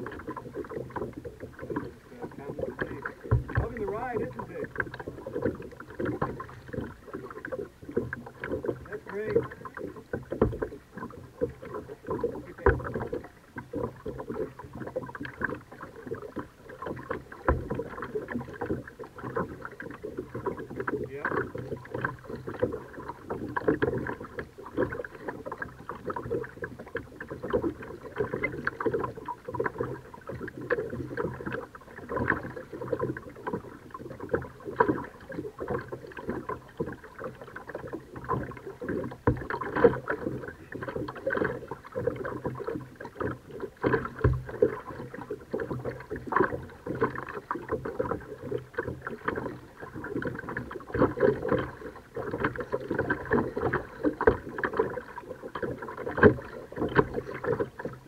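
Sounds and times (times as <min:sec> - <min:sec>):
paddle splashes and drips: 0:00.0 - 0:58.0.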